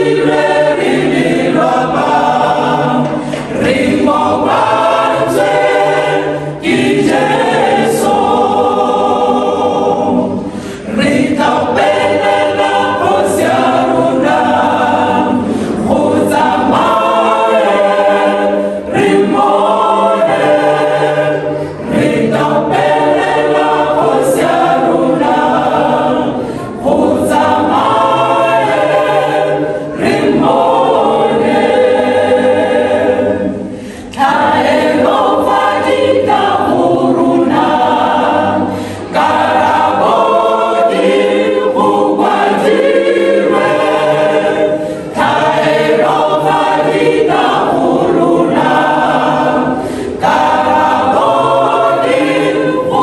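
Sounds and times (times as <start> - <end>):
mixed choir singing gospel: 0.0 - 53.0.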